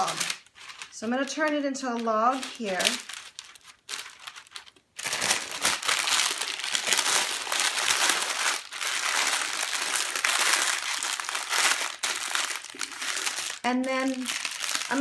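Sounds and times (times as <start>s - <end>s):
parchment paper crinkling: 0.0s - 15.0s.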